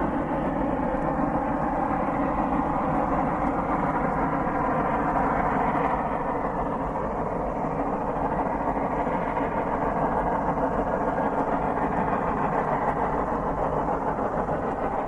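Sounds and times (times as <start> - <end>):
steam locomotives working hard: 0.0 - 15.0.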